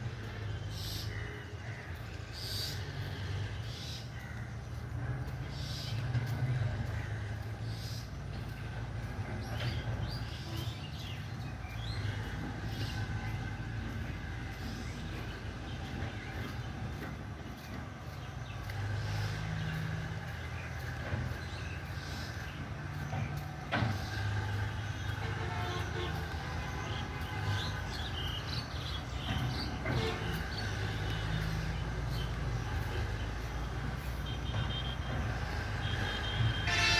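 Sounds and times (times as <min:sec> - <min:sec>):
birds chirping: 0:00.0 - 0:36.9
low street rumble: 0:00.0 - 0:36.9
vehicle engine running: 0:00.0 - 0:36.9.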